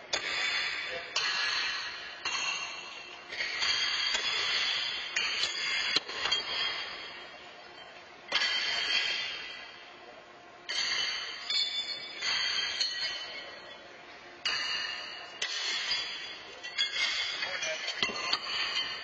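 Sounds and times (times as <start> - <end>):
horseshoes clanking on metal stakes: 1.2 - 9.7, 10.7 - 13.8, 14.4 - 19.0.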